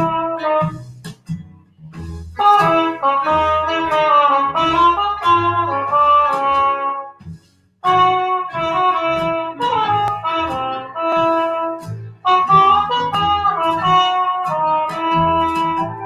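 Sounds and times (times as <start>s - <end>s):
trumpet playing slow jazz: 0.0s - 1.1s, 2.0s - 16.0s
quiet musical accompaniment: 0.0s - 16.0s.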